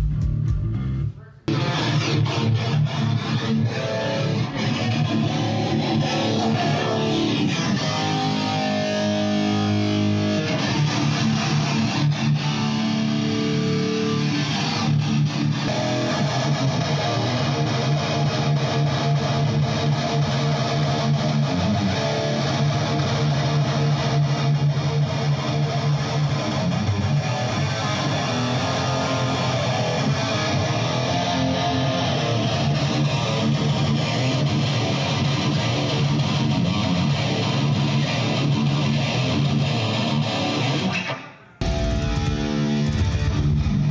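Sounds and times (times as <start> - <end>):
loud electric guitar: 0.0 - 43.9
metal band music: 0.0 - 43.9.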